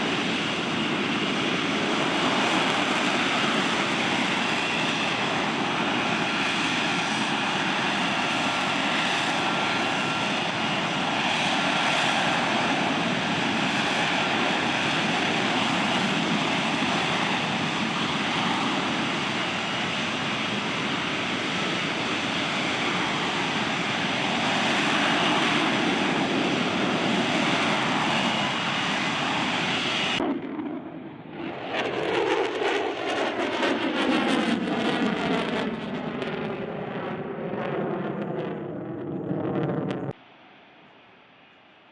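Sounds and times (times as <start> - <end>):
jet engine running: 0.0 - 40.2
jet passing by: 0.0 - 40.2.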